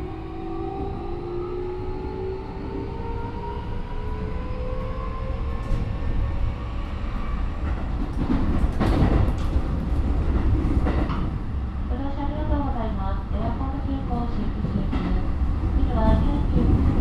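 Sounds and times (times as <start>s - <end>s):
train car rumbling: 0.0s - 17.0s.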